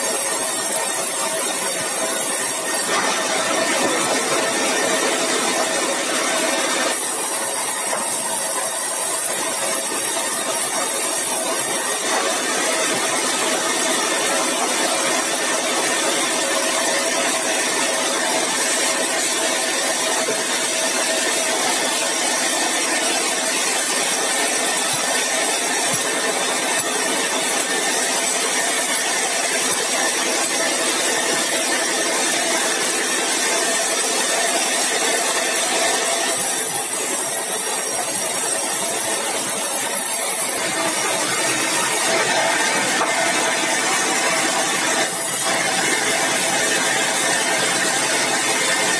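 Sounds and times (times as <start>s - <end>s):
sawmill saw humming: 0.0s - 48.9s.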